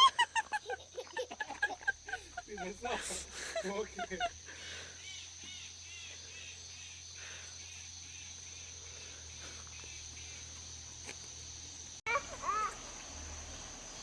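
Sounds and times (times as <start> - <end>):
insect chirping: 0.0 - 14.0
insect high-pitched drone: 0.0 - 14.0.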